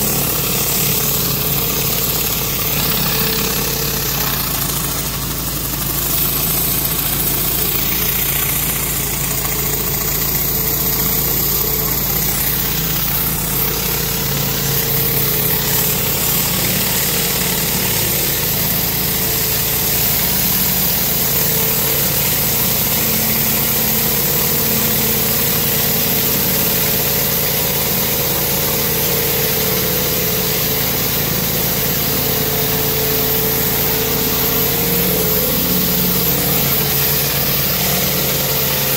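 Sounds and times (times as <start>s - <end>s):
pressure washer engine running: 0.0s - 38.9s
water jets spraying on concrete: 0.0s - 38.9s.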